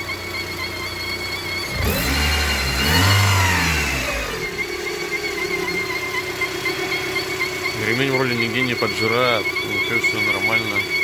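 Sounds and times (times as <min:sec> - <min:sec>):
car engine idling and revving: 0:00.0 - 0:11.0
high-pitched engine whistle: 0:00.0 - 0:11.0.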